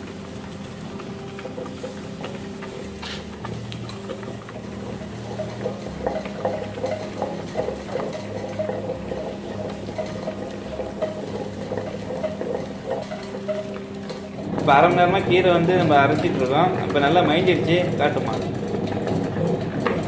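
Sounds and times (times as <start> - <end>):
small clicks and wet churning: 0.0 - 20.0.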